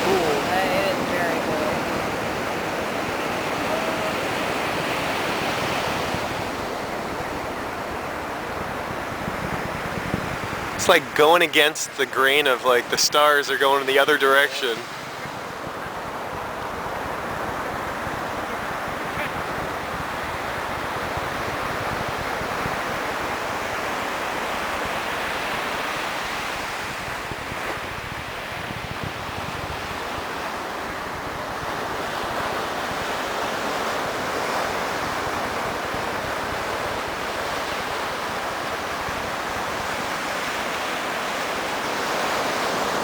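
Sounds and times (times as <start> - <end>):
wind buffeting microphone: 0.0 - 11.2, 14.8 - 25.4, 26.4 - 43.0
ocean surf breaking: 0.0 - 43.0.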